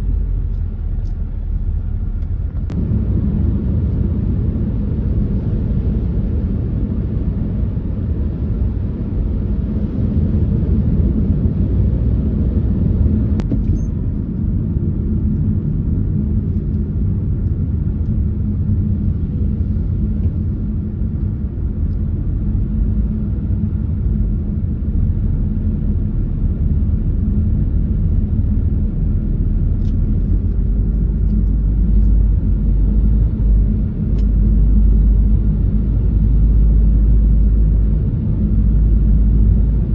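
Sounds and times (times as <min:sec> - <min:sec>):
road and engine noise in car: 0:00.0 - 0:39.9.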